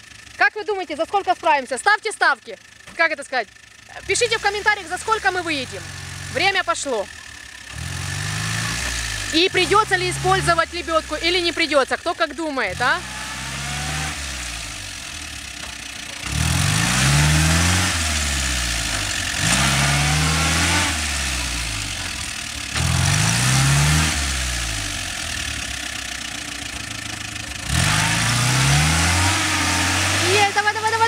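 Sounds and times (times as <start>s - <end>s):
van engine revving hard: 3.8s - 15.6s, 16.2s - 31.0s.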